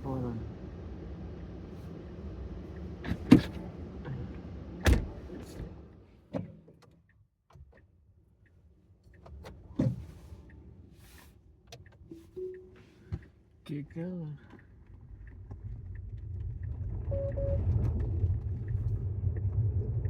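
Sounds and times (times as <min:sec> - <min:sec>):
car road noise: 0:00.0 - 0:06.2, 0:09.1 - 0:20.0.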